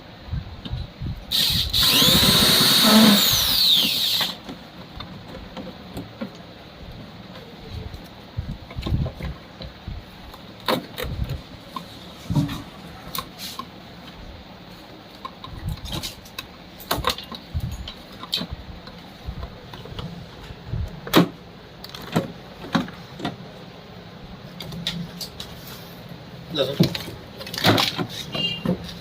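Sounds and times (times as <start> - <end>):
low background noise: 0.0 - 29.0.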